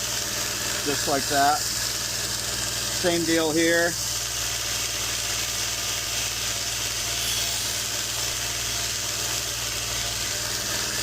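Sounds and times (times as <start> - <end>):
blade on polishing wheel hissing: 0.0 - 11.0
polishing machine motor hum: 0.0 - 11.0.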